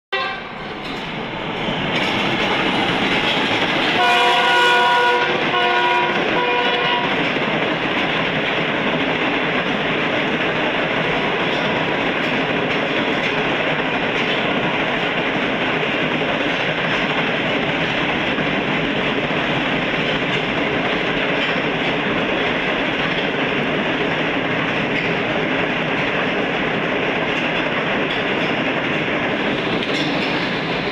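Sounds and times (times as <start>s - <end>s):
clickety-clack over rail joints: 0.2s - 30.9s
train wheels rushing on rails: 0.2s - 30.9s.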